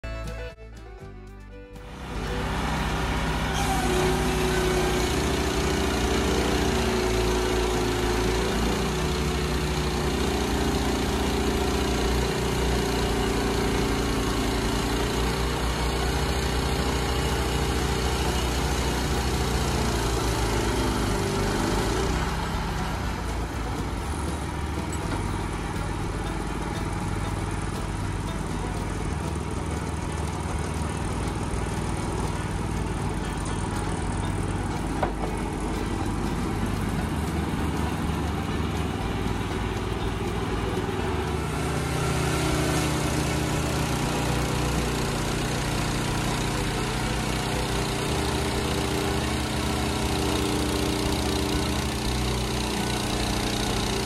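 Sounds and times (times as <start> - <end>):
band sawmill cutting log: 0.1 - 54.0.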